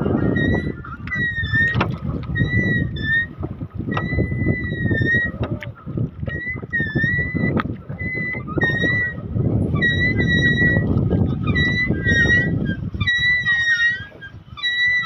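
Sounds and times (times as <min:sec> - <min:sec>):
water lapping on boat: 0:00.0 - 0:15.0
wind: 0:00.0 - 0:15.0.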